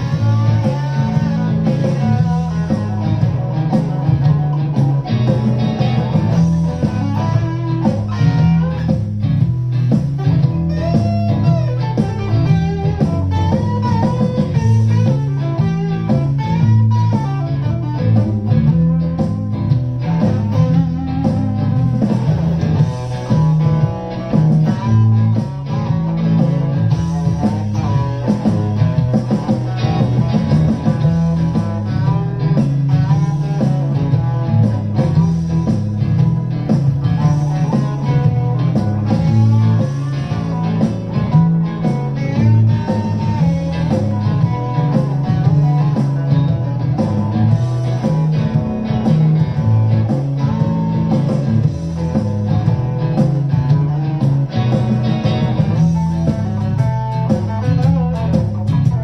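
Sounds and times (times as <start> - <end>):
electric guitar blues-rock line: 0.0 - 59.0.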